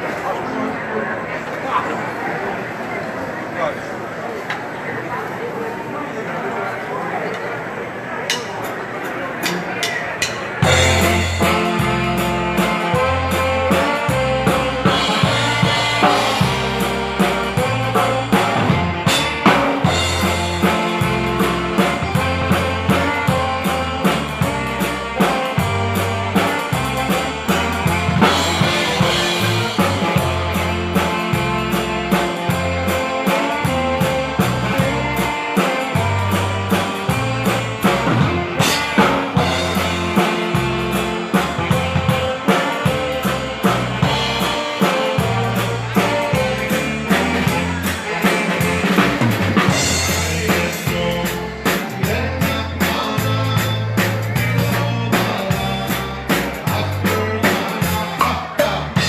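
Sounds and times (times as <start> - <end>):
dance band playing live: 8.4 - 59.0
drum kit and bass beat: 9.5 - 59.0.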